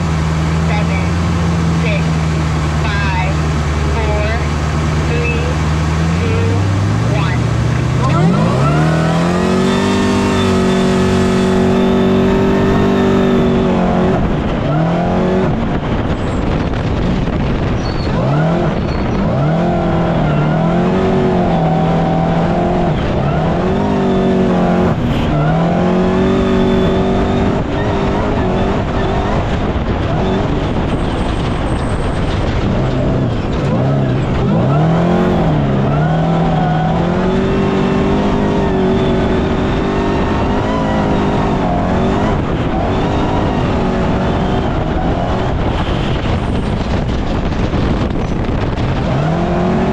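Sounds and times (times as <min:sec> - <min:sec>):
race vehicle engine revving: 0:00.0 - 0:49.9.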